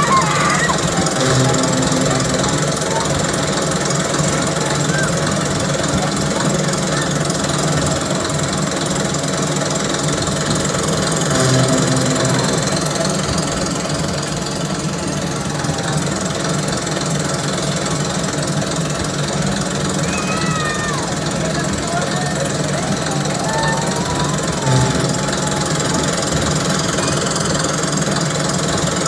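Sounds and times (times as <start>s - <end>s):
ride machinery rattling rumble: 0.0s - 29.0s.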